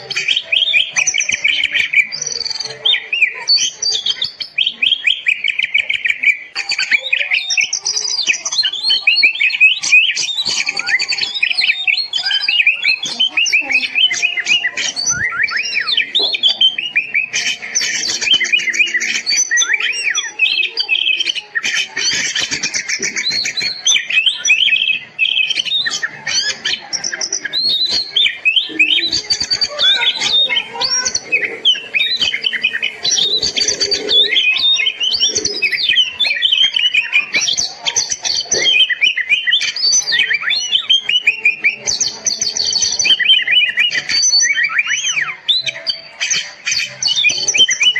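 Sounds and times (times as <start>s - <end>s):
bird singing whistled notes: 0.0s - 47.9s.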